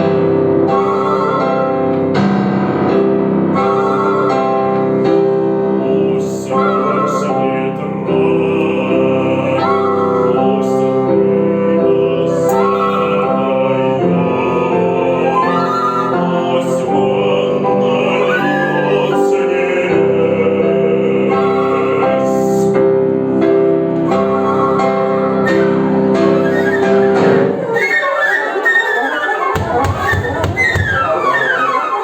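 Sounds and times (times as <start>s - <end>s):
woodwind trio playing chords: 0.0s - 32.0s.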